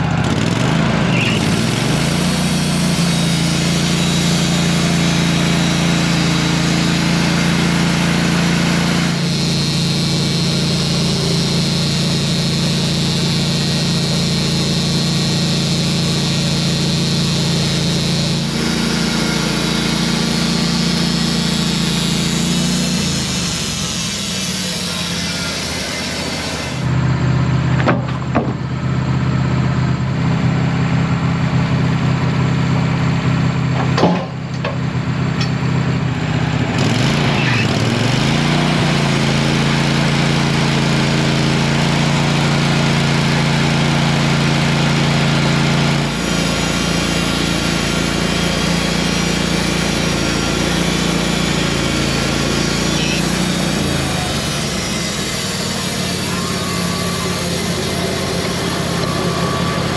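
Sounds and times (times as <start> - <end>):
band sawmill sawing log: 0.0 - 59.9.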